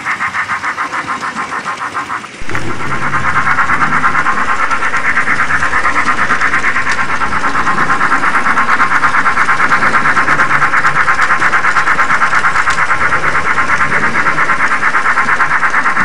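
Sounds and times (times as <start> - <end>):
model locomotive steam chuffing: 0.0 - 16.0.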